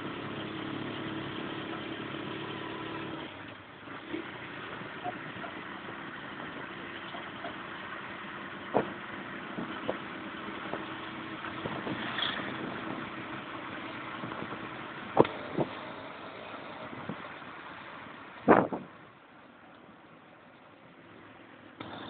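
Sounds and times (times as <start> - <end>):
auto-rickshaw engine running: 0.0 - 22.0.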